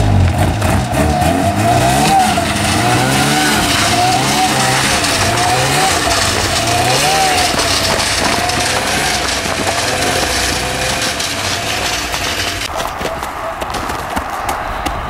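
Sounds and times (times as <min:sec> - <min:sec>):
snowmobile engine under throttle: 0:00.0 - 0:14.1.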